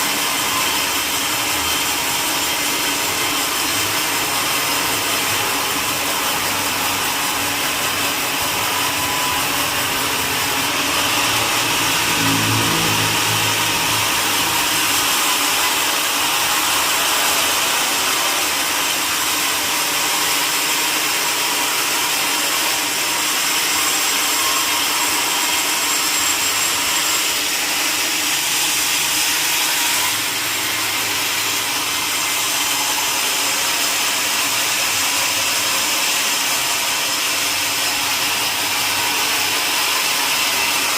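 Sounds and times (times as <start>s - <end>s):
sawmill saw whirring: 0.0s - 40.9s.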